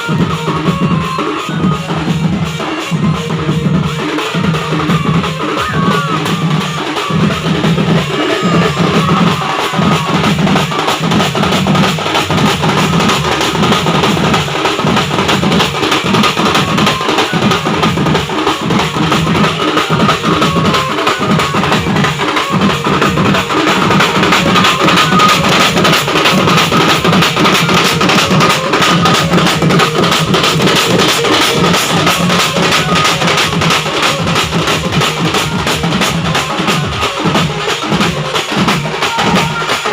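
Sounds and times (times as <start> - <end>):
band playing: 0.0 - 39.9
fast steady drumming: 0.0 - 39.9.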